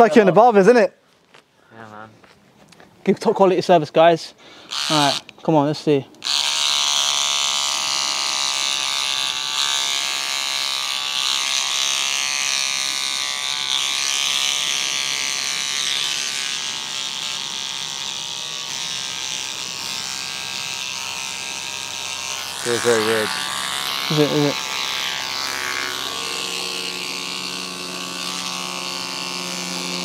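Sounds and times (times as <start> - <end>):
electric beard trimmer buzzing: 4.6 - 5.3, 6.2 - 30.0.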